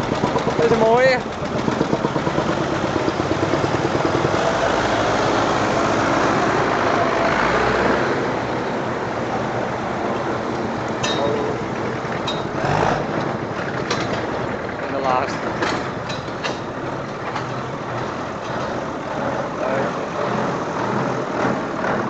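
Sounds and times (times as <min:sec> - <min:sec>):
tractor engines chugging: 0:00.0 - 0:22.0.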